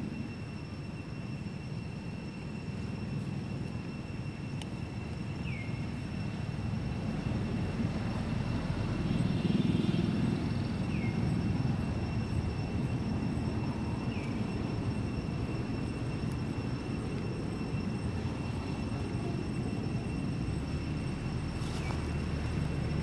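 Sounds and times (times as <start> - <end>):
low outdoor rumble: 0.9 - 23.0.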